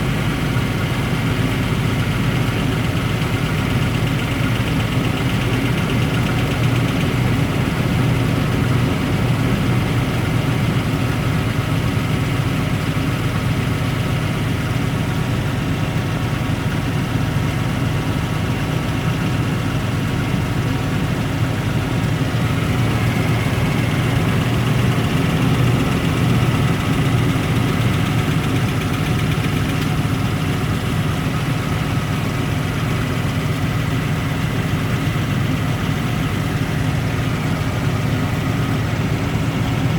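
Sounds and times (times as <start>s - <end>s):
car engine idling: 0.0s - 39.9s
rapid engine knock: 0.1s - 39.9s.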